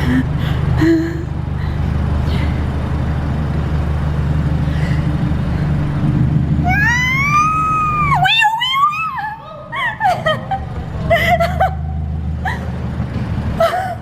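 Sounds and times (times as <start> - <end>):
car engine running at low speed: 0.0 - 14.0.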